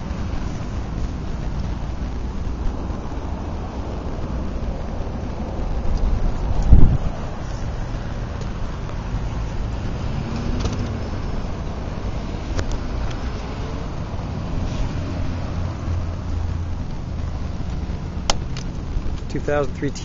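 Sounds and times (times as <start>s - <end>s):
low rumbling: 0.0s - 20.0s.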